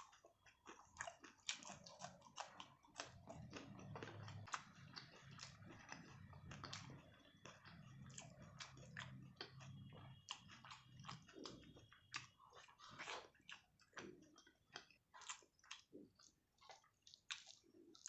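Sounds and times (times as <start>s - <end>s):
chewing food with wet mouth sounds: 0.0s - 18.0s.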